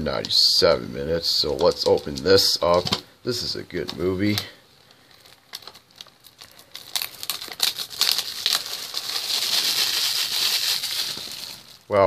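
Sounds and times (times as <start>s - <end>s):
plastic wrap crinkling: 1.4s - 12.0s.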